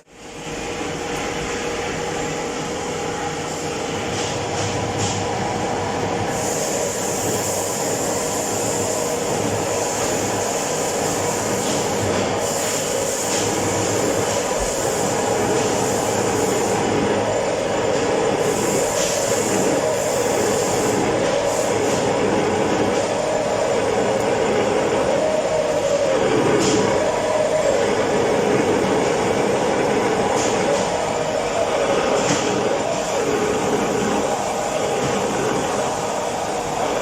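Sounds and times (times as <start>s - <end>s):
high-pitched machine whine: 0.0s - 37.0s
metal lathe running: 0.1s - 37.0s.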